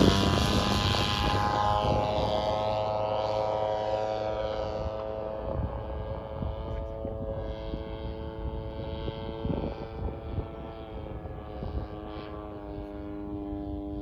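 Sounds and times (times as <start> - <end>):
model plane engine drone: 0.0 - 14.0.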